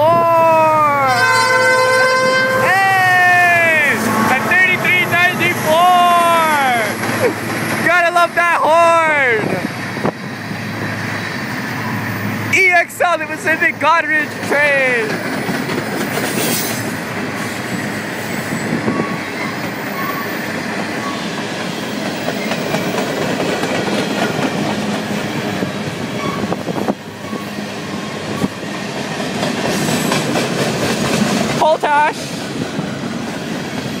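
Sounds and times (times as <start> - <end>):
train wheels rumbling and clattering: 1.5 - 34.0.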